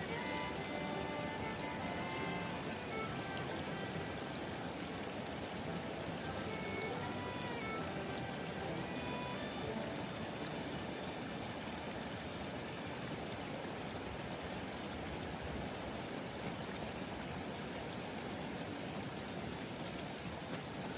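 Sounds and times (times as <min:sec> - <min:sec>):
flowing water rushing: 0:00.0 - 0:20.9.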